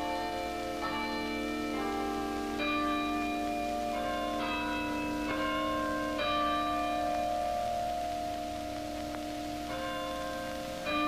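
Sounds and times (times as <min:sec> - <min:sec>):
tower bells ringing: 0:00.0 - 0:11.0.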